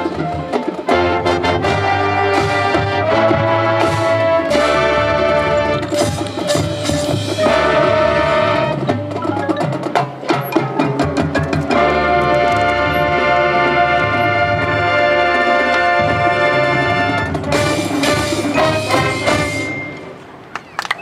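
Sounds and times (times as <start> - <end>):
brass chords: 0.0 - 20.2
drums and percussion: 0.0 - 20.5.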